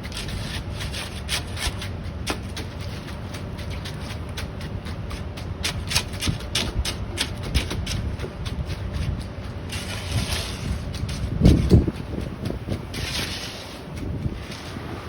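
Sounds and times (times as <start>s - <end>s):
screed scraping wet concrete: 0.0s - 15.0s
steady low rumble: 0.0s - 15.0s.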